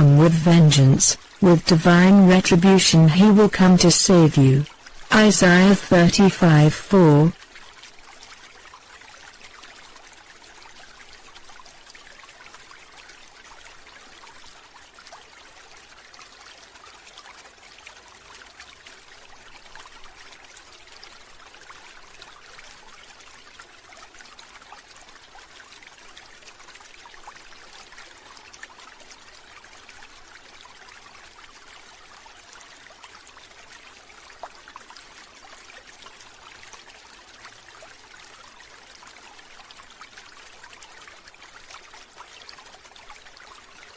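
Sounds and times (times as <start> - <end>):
water trickling and splashing: 7.4 - 43.9.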